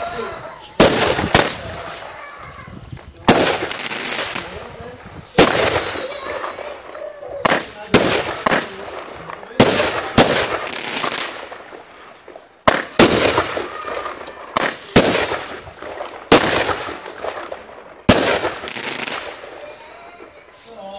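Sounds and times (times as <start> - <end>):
firework bangs: 0.0 - 20.6
firework crackling: 0.0 - 20.9.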